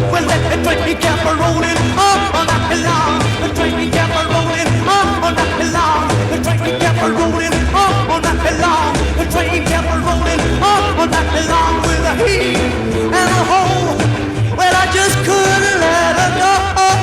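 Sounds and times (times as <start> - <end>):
distorted electric guitar: 0.0 - 17.0
drums: 0.0 - 17.0
man singing: 0.0 - 17.0
upright bass: 0.0 - 17.0.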